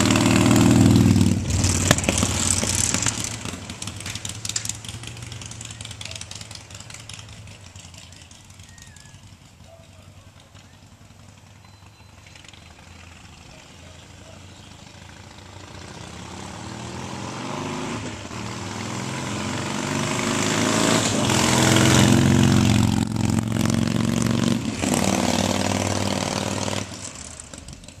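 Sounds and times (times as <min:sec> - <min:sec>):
motorcycle engine accelerating past: 0:00.0 - 0:28.0.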